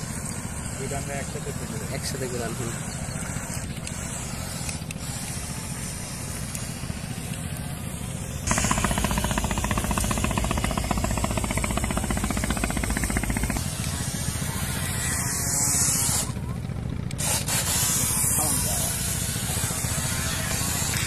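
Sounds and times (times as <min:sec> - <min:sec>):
toy boat electric motors buzzing: 0:00.0 - 0:21.0.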